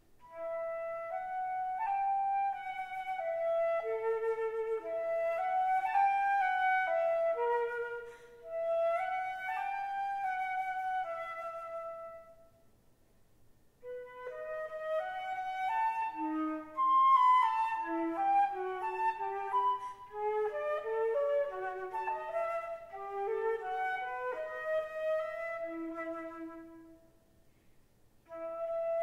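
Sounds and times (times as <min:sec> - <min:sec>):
solo flute playing: 0:00.2 - 0:12.6, 0:13.8 - 0:27.2, 0:28.2 - 0:29.0.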